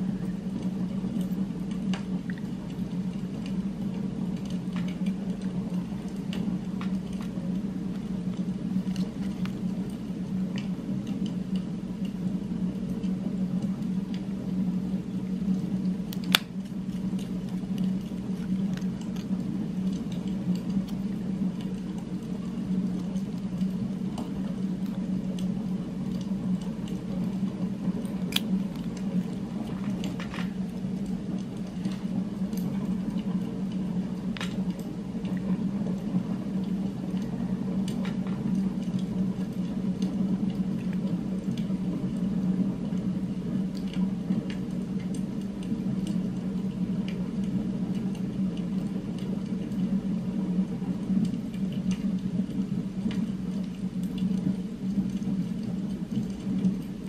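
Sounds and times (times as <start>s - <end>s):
steady low ambient hum: 0.0s - 57.0s.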